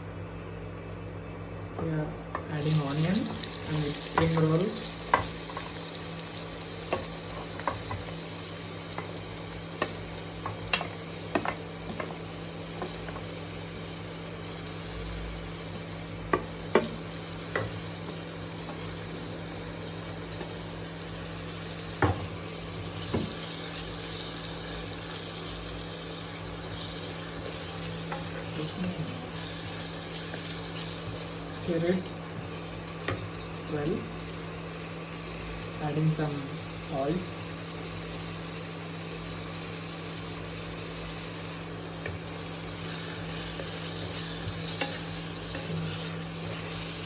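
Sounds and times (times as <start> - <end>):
steady low hum: 0.0 - 47.0
onion sizzling in hot oil: 2.4 - 47.0.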